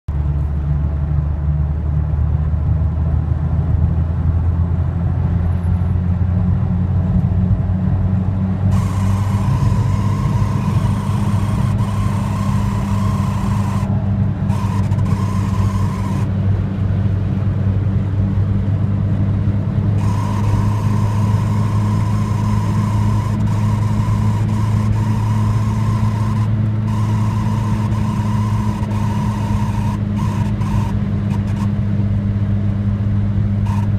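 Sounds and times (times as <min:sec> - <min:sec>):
engine and road drone: 0:00.0 - 0:33.9
high buzzing whine: 0:05.6 - 0:33.9.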